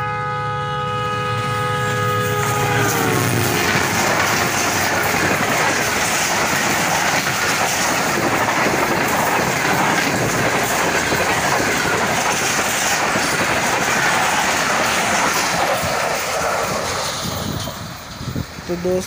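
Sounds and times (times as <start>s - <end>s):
train wheels rushing on rails: 1.4s - 19.0s.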